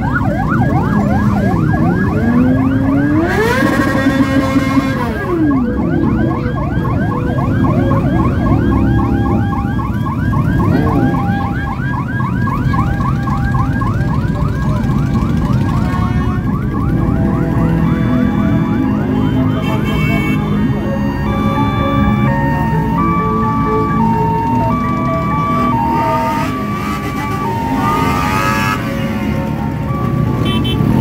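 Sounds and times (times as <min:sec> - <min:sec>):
motorcycle engines rumbling: 0:00.0 - 0:31.0
sirens yelping: 0:00.0 - 0:31.0.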